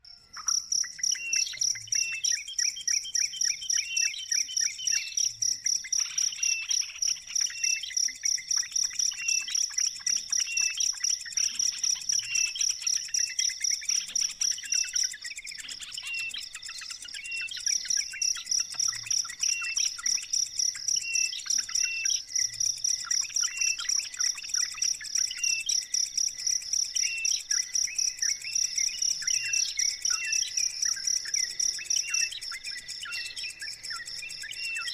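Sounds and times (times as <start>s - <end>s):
bird chirping: 0.0s - 34.9s
insect trilling: 0.0s - 34.9s.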